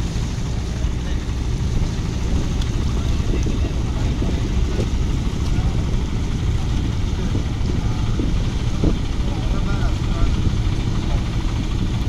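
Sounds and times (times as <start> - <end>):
boat engine rumbling: 0.0 - 12.0
faint voices: 0.4 - 12.0.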